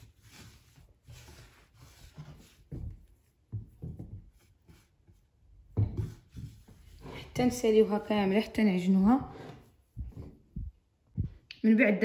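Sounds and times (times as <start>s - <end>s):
hands kneading dough: 0.0s - 11.4s.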